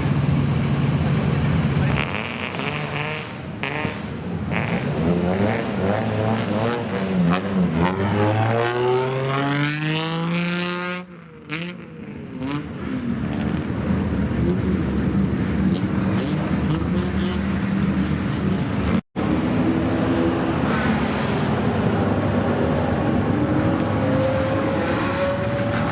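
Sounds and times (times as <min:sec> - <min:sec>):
car engine revving: 0:00.9 - 0:11.8, 0:12.4 - 0:25.9.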